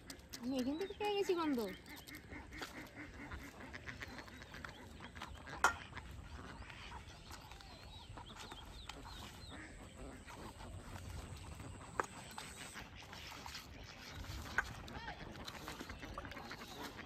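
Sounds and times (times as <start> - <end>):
ducks quacking faintly: 0.0 - 17.0.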